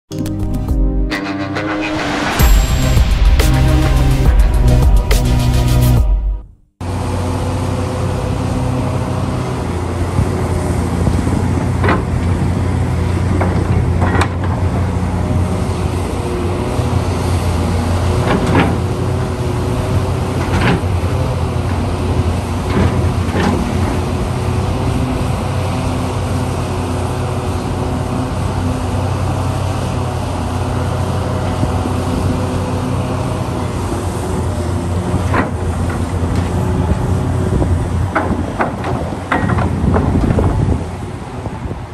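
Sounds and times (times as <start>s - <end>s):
excavator diesel engine: 0.1s - 41.9s.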